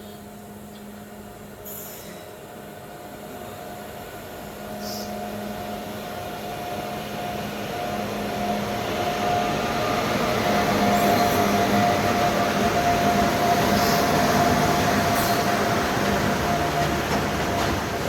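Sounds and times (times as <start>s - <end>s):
electric locomotive humming: 0.0s - 18.0s.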